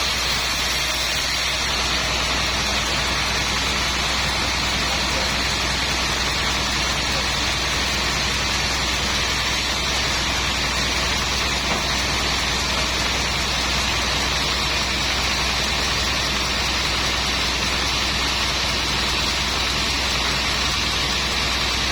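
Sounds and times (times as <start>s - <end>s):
sawmill machinery humming: 0.0s - 21.9s.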